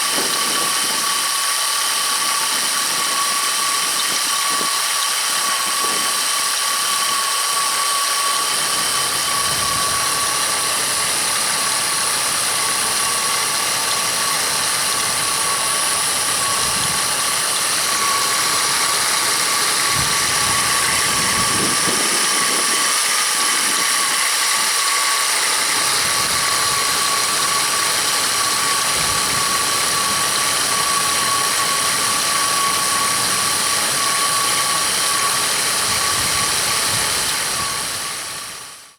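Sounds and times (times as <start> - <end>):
engine belt squealing: 0.0 - 38.9
rough mechanical rubbing: 1.8 - 33.3.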